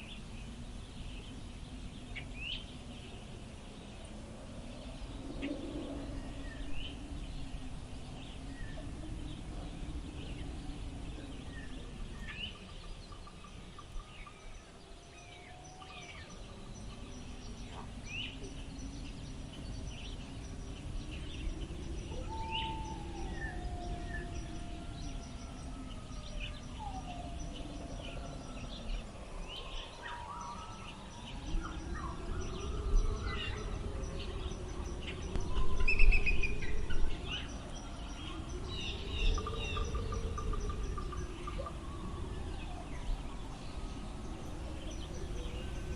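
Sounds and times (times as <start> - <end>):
birds chirping: 0.0 - 45.9
wind blowing in gusts: 0.0 - 45.9.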